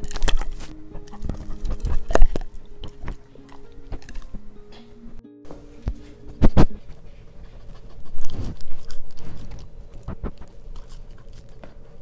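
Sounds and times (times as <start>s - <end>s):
dog chewing on microphone: 0.0s - 4.4s, 6.4s - 12.0s.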